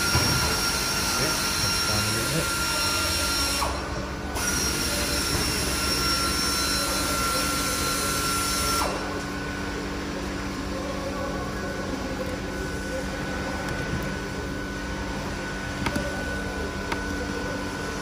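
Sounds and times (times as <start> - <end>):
mechanical whir with high whine: 0.0 - 18.0.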